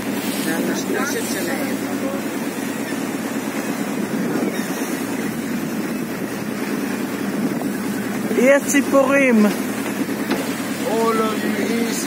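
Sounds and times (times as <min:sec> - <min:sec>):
boat engine humming: 0:00.0 - 0:12.0
wind and water rushing: 0:00.0 - 0:12.0.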